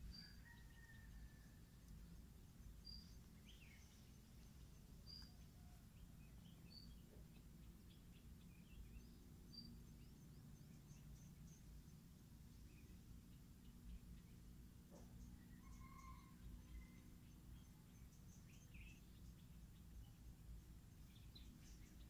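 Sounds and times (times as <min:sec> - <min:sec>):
faint bird chirps: 0:00.0 - 0:22.0
low steady rumble: 0:00.0 - 0:22.0.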